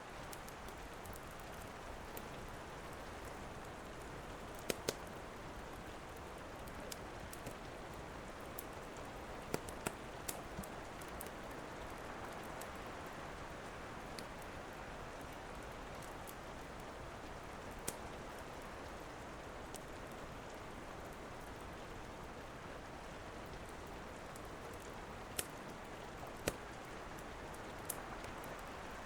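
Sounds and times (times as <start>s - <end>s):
rain falling: 0.0s - 29.0s
wood fire crackling: 0.0s - 29.0s.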